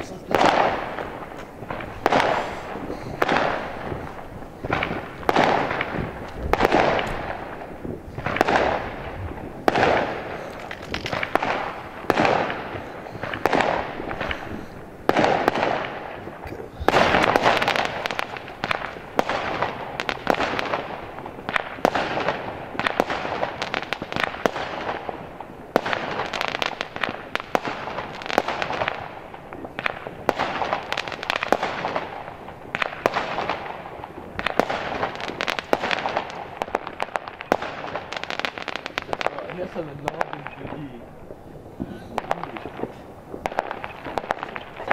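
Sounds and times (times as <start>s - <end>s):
fireworks bursting with echo: 0.0s - 44.9s
sharp firework cracks: 0.0s - 44.9s.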